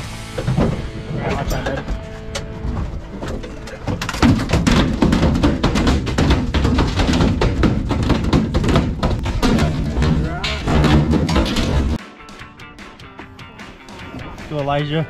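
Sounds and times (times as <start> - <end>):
background music with driving drum beat: 0.0 - 15.0.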